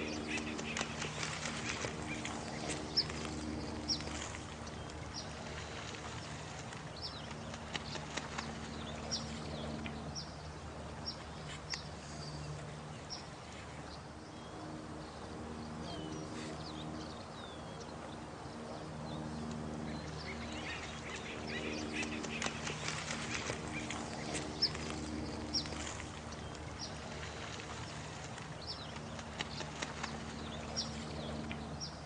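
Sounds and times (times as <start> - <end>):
running water: 0.0 - 14.2, 16.1 - 32.0.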